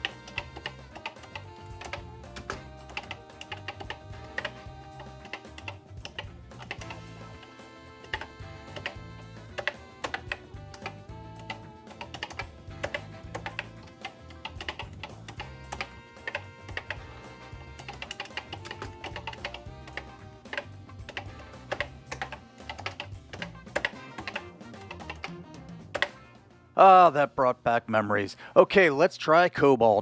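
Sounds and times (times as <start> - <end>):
keyboard keys clicking: 0.0 - 26.2
background music: 0.0 - 30.0.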